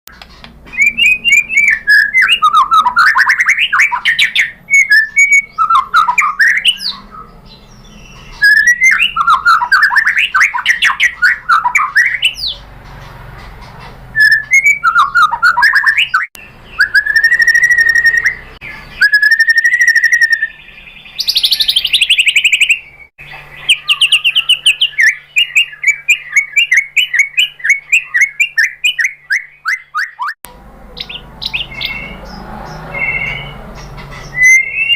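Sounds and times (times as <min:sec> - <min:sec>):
bird singing whistles and trills: 0:00.7 - 0:12.6, 0:14.2 - 0:30.4, 0:31.0 - 0:34.9.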